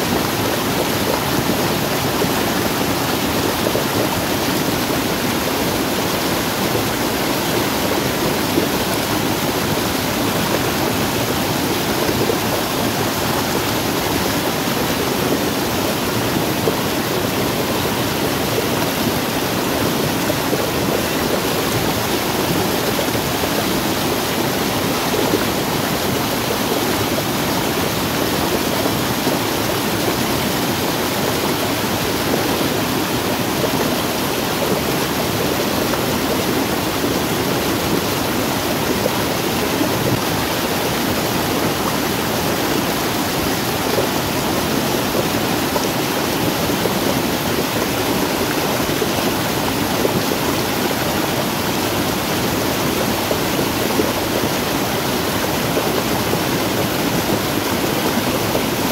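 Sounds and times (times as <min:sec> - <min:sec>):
water rushing down rocks: 0:00.0 - 0:58.9.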